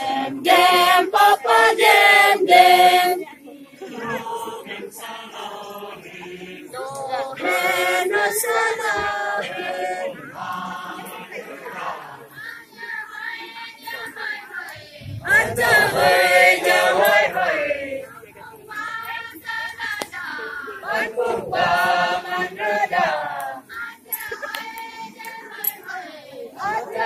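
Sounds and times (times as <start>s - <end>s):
group singing chanted melody: 0.0s - 27.0s.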